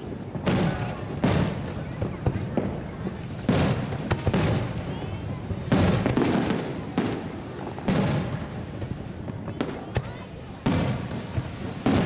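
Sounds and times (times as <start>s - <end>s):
fireworks bursting with crackling: 0.0s - 12.0s.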